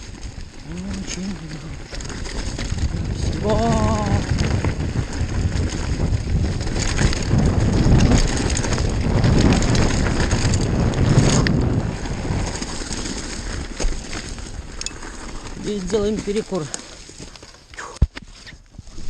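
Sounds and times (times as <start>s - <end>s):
wind buffeting microphone: 0.0s - 17.2s
bike tyres rattling on rocks: 0.0s - 19.0s.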